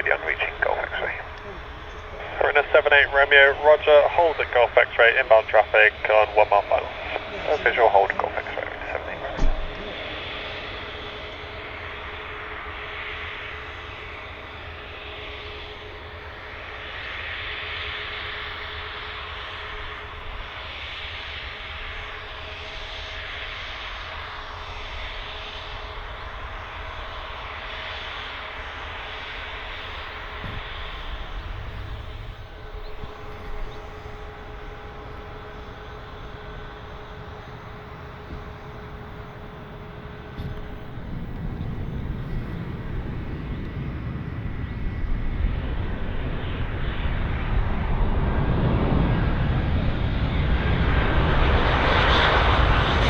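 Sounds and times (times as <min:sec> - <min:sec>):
jet engines whining: 0:00.0 - 0:53.0.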